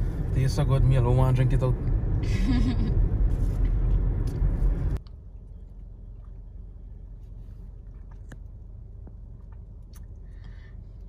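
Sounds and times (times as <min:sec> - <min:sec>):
road and engine rumble in car: 0:00.0 - 0:11.0
steady low hum: 0:00.0 - 0:11.0.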